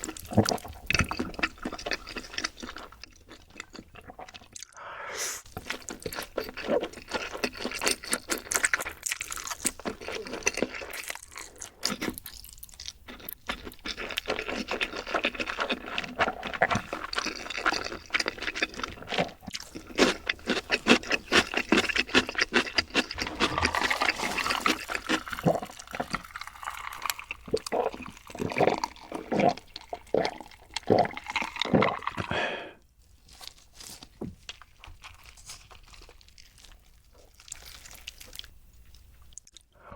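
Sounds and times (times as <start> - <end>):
wet chewing and slurping: 0.0 - 4.8, 5.4 - 32.4, 33.3 - 39.9.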